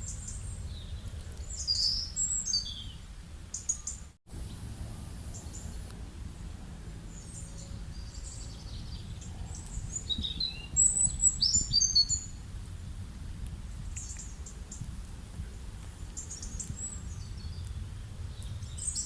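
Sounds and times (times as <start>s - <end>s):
small birds chirping: 0.0s - 12.4s, 13.8s - 14.9s, 16.1s - 19.0s
low outdoor background rumble: 0.0s - 19.0s.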